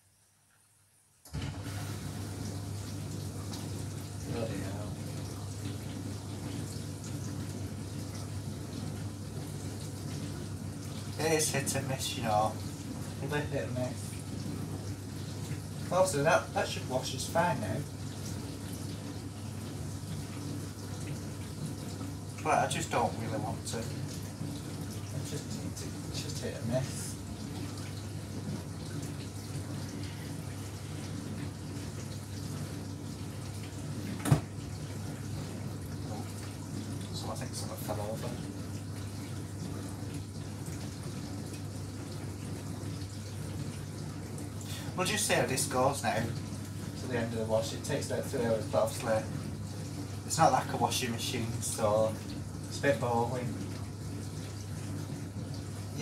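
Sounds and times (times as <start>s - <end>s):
dishwasher low hum: 0.4s - 56.0s
water rushing inside dishwasher: 1.2s - 56.0s.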